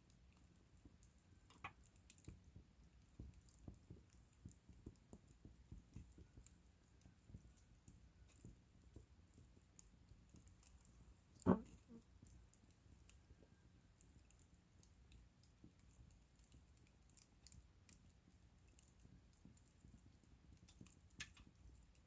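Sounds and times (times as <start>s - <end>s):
bonfire crackling and popping: 0.8s - 22.0s.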